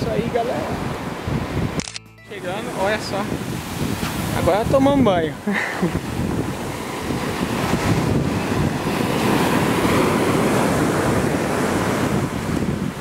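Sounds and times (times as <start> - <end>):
ocean surf washing up beach: 0.0 - 13.0
wind buffeting microphone: 0.0 - 13.0.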